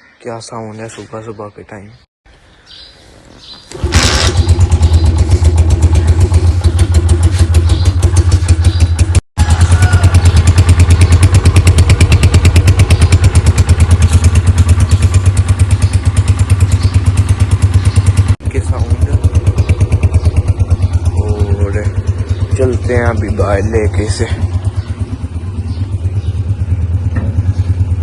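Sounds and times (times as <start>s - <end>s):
motorcycle engine idling: 3.7s - 28.0s.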